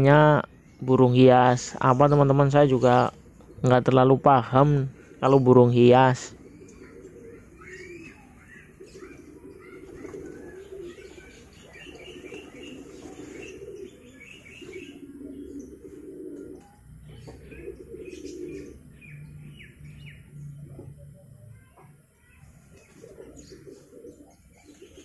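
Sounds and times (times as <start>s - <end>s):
pigeons cooing: 0.0s - 25.0s
small birds chirping: 0.0s - 25.0s.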